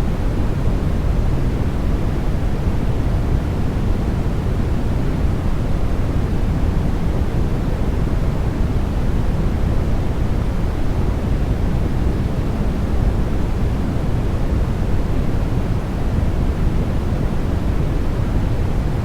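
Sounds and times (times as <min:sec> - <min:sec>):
steady white noise hiss: 0:00.0 - 0:19.0.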